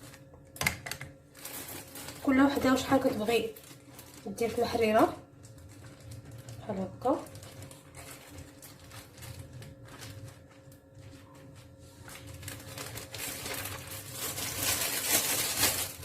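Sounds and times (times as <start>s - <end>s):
plastic bag rustling and crinkling: 0.0s - 0.3s, 1.2s - 16.0s.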